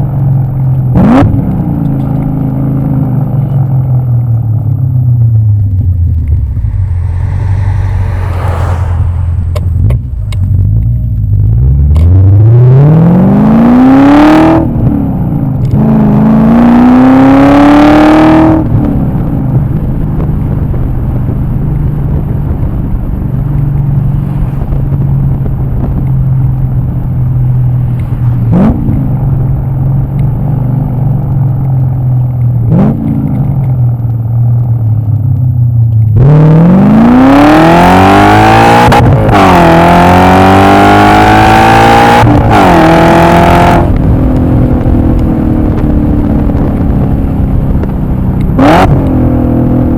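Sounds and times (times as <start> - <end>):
car engine revving at full throttle: 0.0 - 35.3, 35.9 - 49.9.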